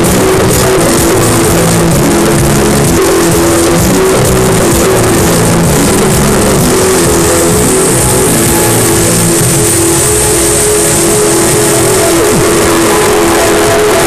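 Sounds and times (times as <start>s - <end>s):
loud music through speakers: 0.0s - 14.0s.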